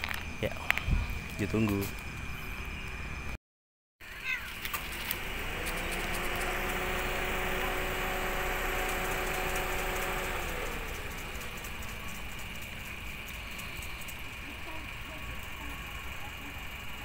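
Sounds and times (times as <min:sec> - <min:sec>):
vehicle engine running: 0:00.0 - 0:03.4, 0:04.0 - 0:17.0.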